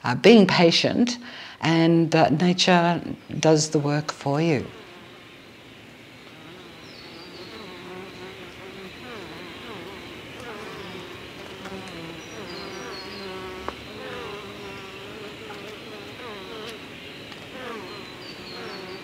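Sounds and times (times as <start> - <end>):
bees buzzing: 3.6 - 19.0.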